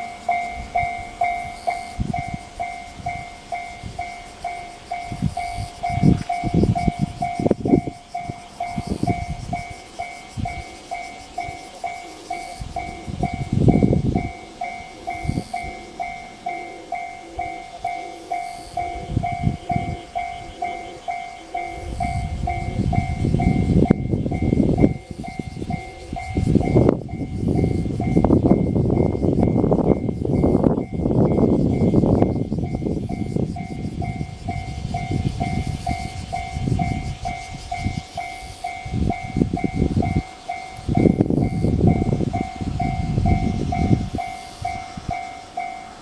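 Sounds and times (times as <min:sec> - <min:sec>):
level crossing warning bell: 0:00.0 - 0:46.0.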